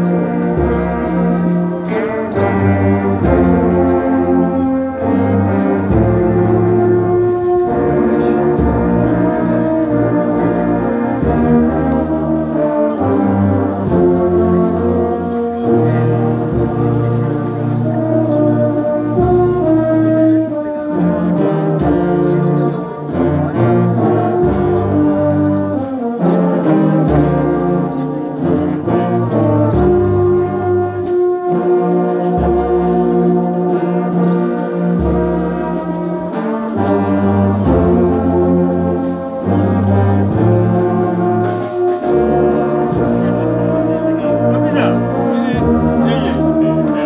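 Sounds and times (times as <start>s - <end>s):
brass band playing slow chords: 0.0s - 47.0s.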